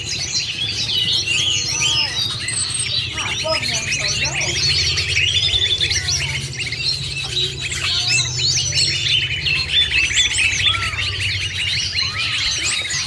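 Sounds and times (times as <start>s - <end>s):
leafbird calls: 0.0s - 13.0s
small birds chirping: 0.0s - 13.0s
steady low hum: 0.0s - 13.0s.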